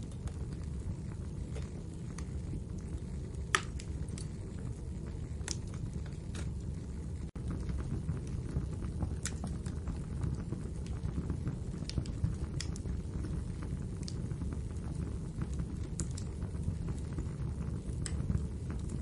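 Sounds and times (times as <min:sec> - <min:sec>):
sharp pops from fire: 0:00.0 - 0:19.0
wood fire crackling: 0:00.0 - 0:19.0.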